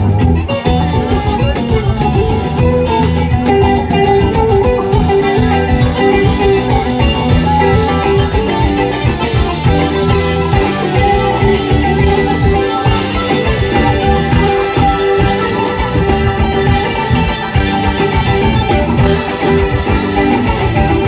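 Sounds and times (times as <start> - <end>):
bass guitar: 0.0 - 21.0
drum kit: 0.0 - 21.0
electric guitar lines: 0.0 - 21.0.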